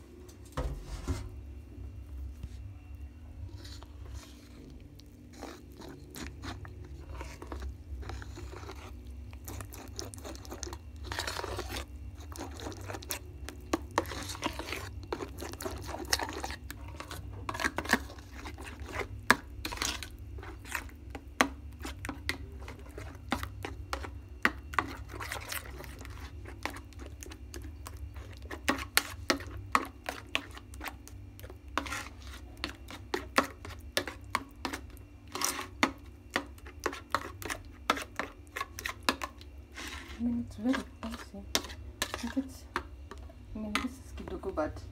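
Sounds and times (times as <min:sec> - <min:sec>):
spoon stirring thick paste: 0:00.3 - 0:44.9.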